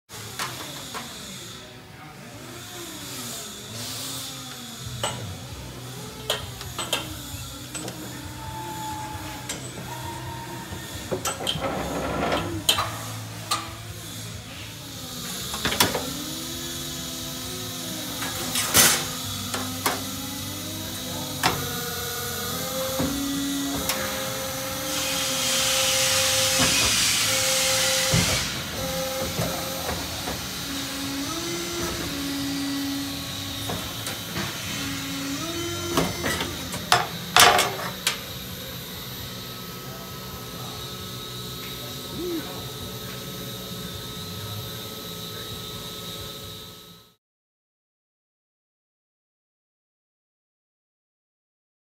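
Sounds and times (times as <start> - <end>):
machine motor whine: 0.1 - 47.2.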